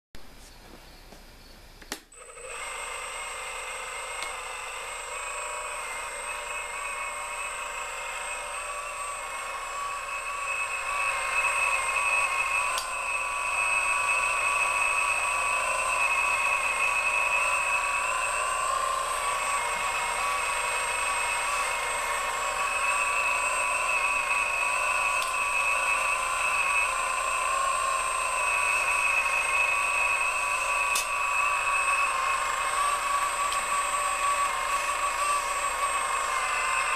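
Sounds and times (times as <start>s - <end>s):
electric drive whining: 1.8s - 36.9s.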